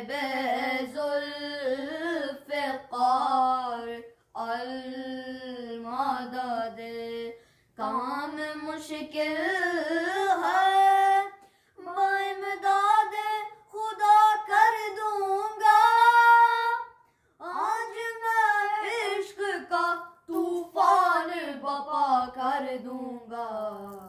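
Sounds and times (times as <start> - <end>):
boys singing unaccompanied: 0.0 - 23.8.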